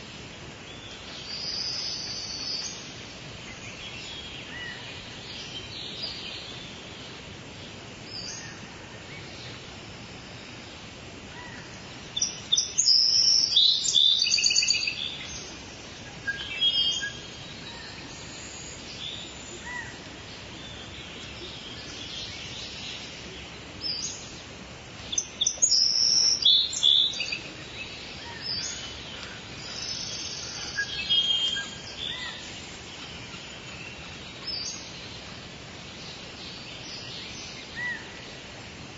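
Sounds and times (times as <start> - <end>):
songbirds chirping: 0.0 - 38.9
steady rain falling: 0.0 - 38.9.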